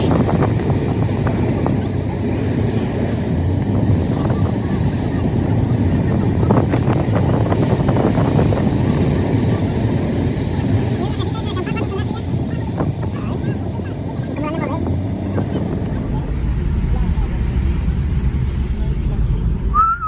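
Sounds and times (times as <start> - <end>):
faint voices: 0.0 - 20.0
wind and road noise: 0.0 - 20.0.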